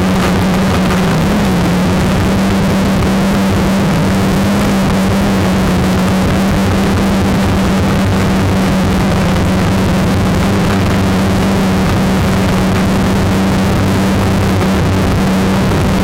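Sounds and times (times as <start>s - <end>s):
drone motors humming: 0.0s - 16.0s
propeller noise: 0.0s - 16.0s.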